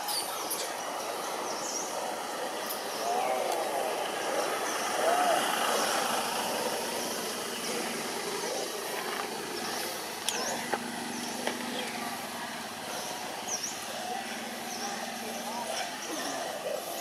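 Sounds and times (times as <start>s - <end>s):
distant vehicle engine hum: 0.7s - 17.0s.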